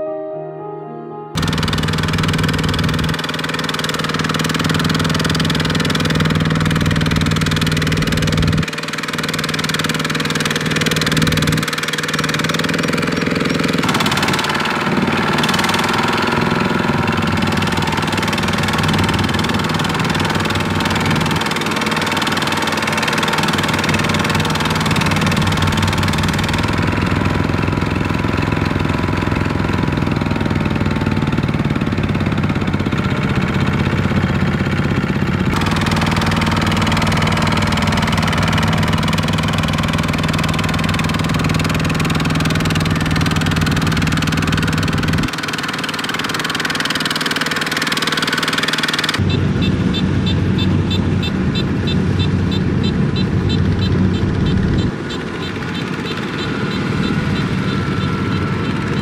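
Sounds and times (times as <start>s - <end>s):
diesel tractor engine running: 1.4s - 59.0s.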